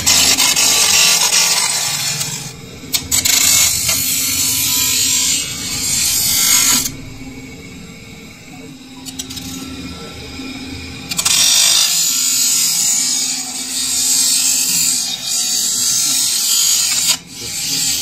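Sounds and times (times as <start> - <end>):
grinder running: 0.0 - 7.4, 8.8 - 18.0
metal grinding on grinding wheel: 0.0 - 7.4, 9.0 - 9.8, 10.4 - 18.0.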